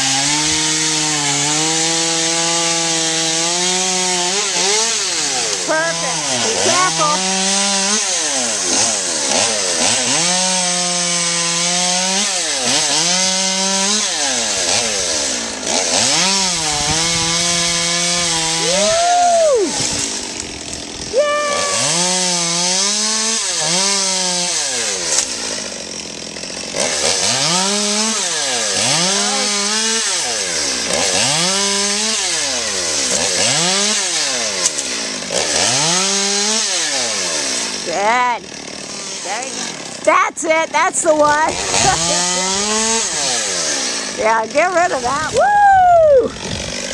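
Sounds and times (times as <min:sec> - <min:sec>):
chainsaw revving: 0:00.0 - 0:45.4, 0:46.1 - 0:46.9.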